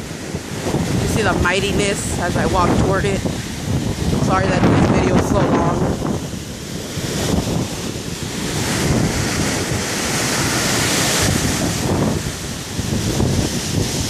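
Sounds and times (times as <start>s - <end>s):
wind buffeting microphone: 0.0s - 14.0s
wind rushing through tree: 0.0s - 14.0s.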